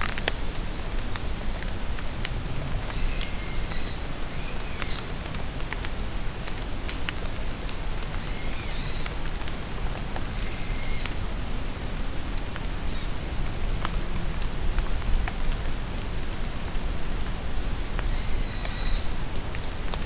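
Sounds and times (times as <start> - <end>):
rain falling in forest: 0.0 - 20.0
raindrops ticking: 0.0 - 20.0.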